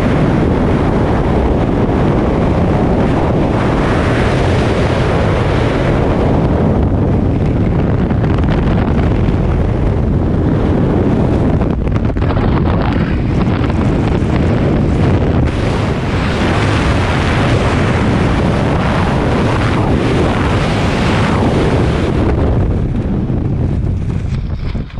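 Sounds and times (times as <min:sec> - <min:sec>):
wind noise on microphone: 0:00.0 - 0:24.9.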